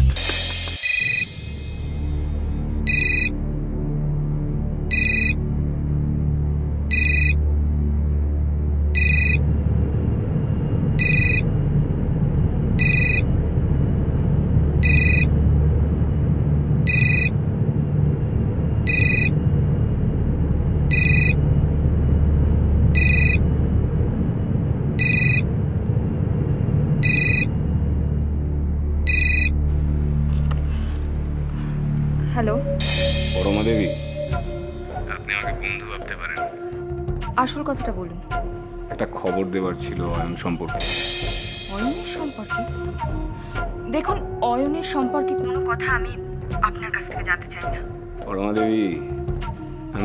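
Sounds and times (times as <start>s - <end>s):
tense music drone: 0.0s - 50.0s.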